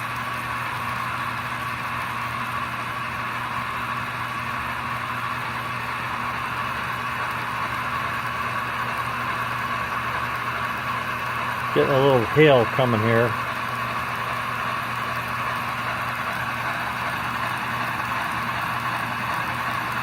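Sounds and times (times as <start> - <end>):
model train running on track: 0.1 - 20.0.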